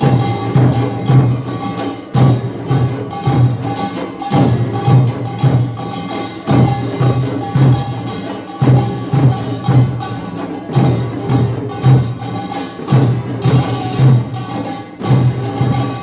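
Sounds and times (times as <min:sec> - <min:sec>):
drums beating rhythm: 0:00.0 - 0:16.0
small gongs clanging: 0:00.0 - 0:16.0.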